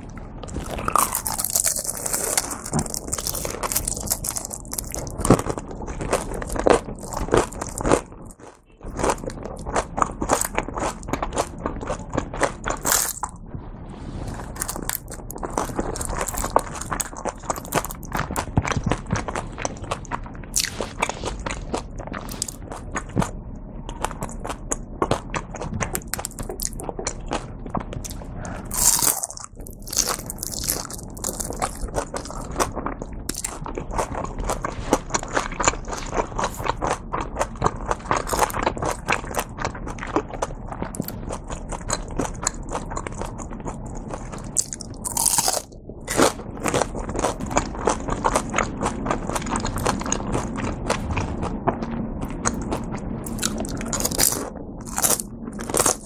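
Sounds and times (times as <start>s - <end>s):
wet chewing: 0.4s - 13.4s, 14.4s - 56.0s
fried wrapper crunching: 0.5s - 13.3s, 14.4s - 23.3s, 25.8s - 27.4s, 28.0s - 51.4s, 52.5s - 56.0s.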